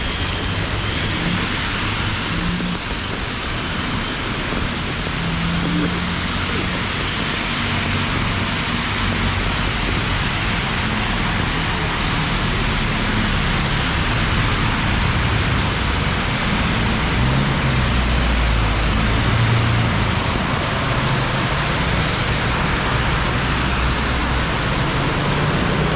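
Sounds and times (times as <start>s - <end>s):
heavy rain pouring: 0.0s - 25.9s
traffic hum: 0.0s - 25.9s.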